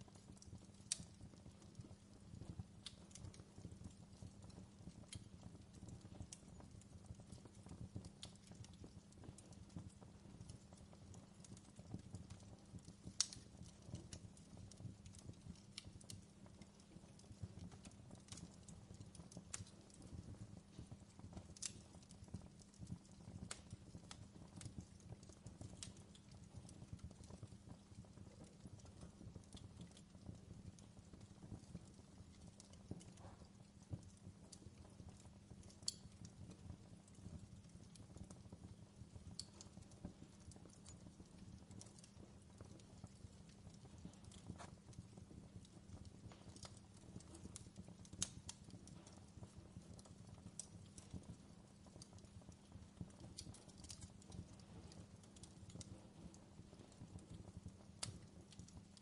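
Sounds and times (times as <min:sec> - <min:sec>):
fire crackling and popping: 0:00.0 - 0:59.0
low steady fire rumble: 0:00.0 - 0:59.0.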